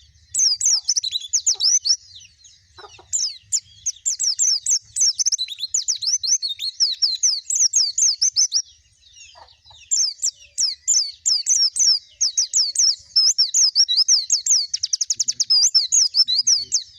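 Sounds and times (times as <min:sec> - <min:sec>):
bird singing high whistled notes: 0:00.0 - 0:16.9.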